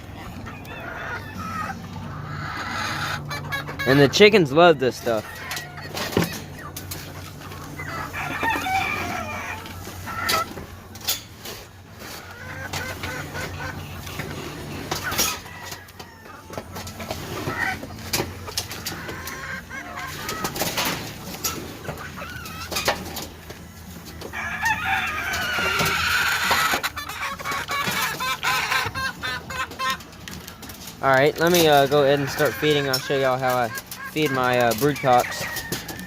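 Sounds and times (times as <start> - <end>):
chickens clucking: 0.0 - 36.0
roosters crowing: 0.0 - 36.0.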